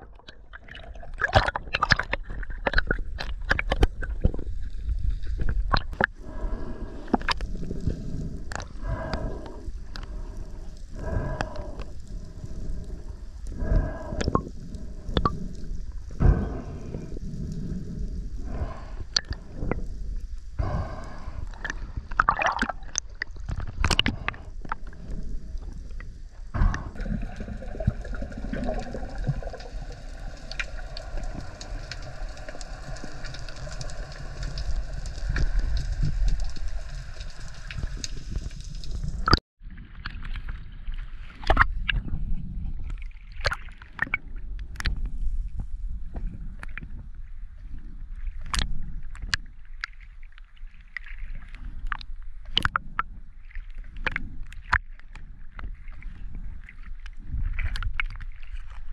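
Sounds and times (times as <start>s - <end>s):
water sloshing and gurgling: 0.0s - 58.9s.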